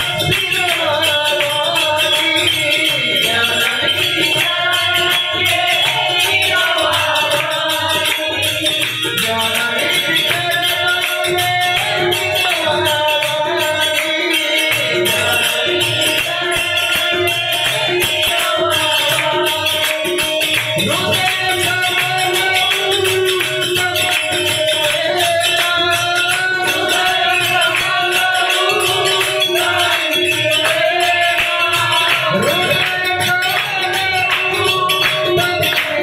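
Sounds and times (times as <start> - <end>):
harmonium: 0.0 - 36.0
jingling hand percussion: 0.0 - 36.0
tabla: 0.0 - 36.0.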